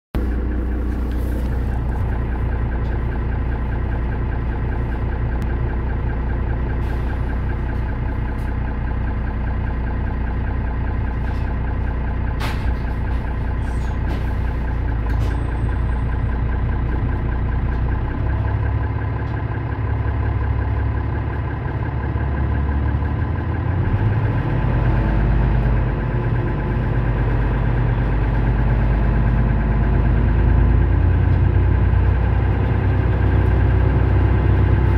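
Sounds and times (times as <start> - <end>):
bus engine idling: 0.2 - 34.9.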